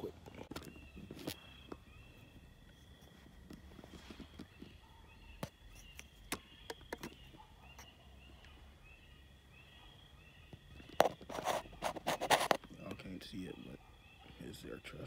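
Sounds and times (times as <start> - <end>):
insect chirps: 0.0 - 15.0
insects trilling: 0.0 - 15.0.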